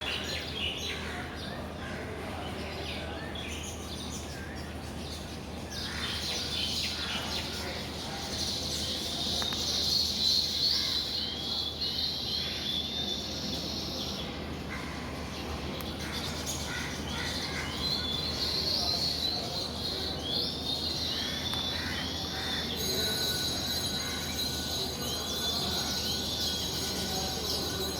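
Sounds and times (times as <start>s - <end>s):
birds chirping and chattering: 0.0s - 27.9s.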